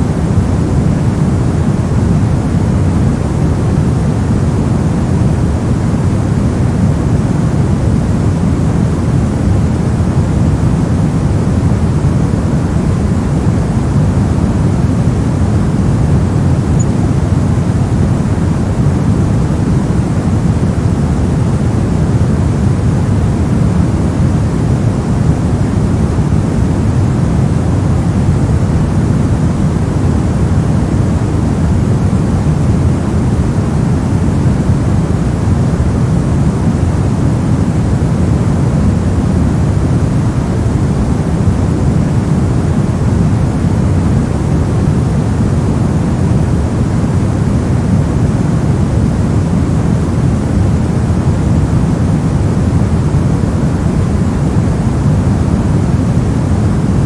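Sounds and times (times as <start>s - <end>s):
low white noise rush: 0.0s - 57.0s.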